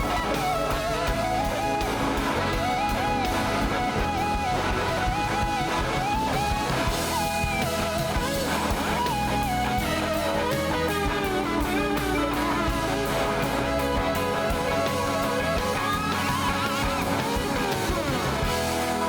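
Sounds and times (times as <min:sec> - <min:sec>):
electric guitar lead: 0:00.0 - 0:19.0
live rock band playing: 0:00.0 - 0:19.0.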